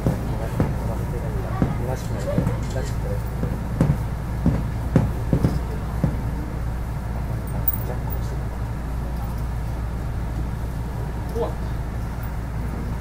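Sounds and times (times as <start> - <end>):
train car hum and rumble: 0.0 - 13.0.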